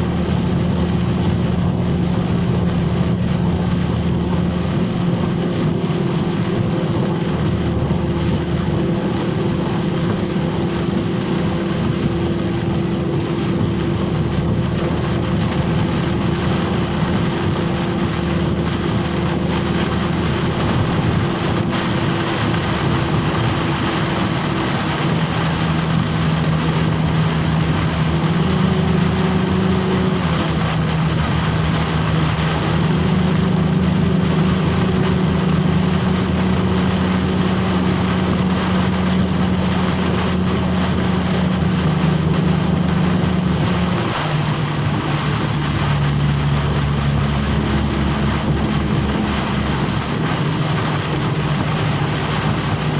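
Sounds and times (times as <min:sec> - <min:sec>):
heavy rain: 0:00.0 - 0:52.9
road noise: 0:00.0 - 0:52.9
truck engine drone: 0:00.0 - 0:52.9.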